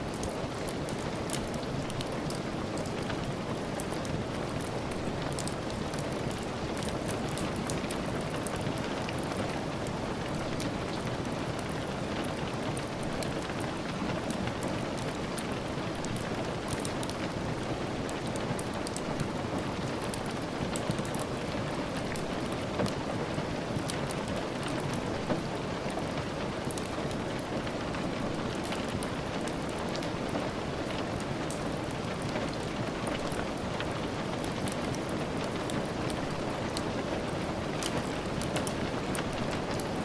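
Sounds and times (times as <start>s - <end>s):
steady rain falling: 0.0s - 40.0s
sharp rain ticks: 0.1s - 40.0s.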